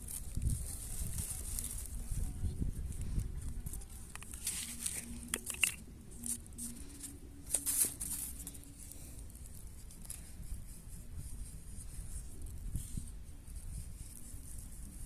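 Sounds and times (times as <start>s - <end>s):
low outdoor hiss: 0.0s - 15.0s.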